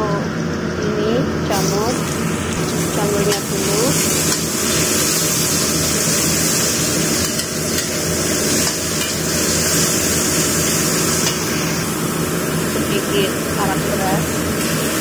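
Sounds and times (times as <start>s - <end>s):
steady low hum: 0.0s - 15.0s
mushrooms sizzling in a wok: 1.5s - 15.0s.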